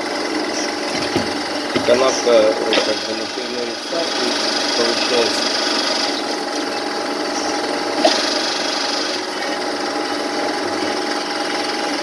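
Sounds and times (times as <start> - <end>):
lathe cutting brass: 0.0 - 12.0
spindle drive whine: 0.0 - 12.0.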